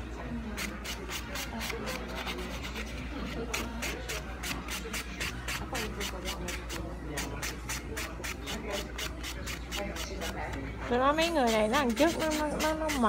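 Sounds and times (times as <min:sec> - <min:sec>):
faint background chatter: 0:00.0 - 0:13.0
nail file rasping on fingernails: 0:00.6 - 0:10.6, 0:11.2 - 0:13.0.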